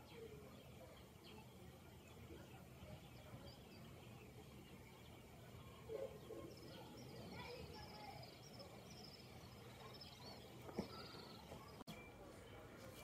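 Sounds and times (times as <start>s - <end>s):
small bird chirping: 0.0s - 12.6s
low background noise: 0.0s - 13.0s.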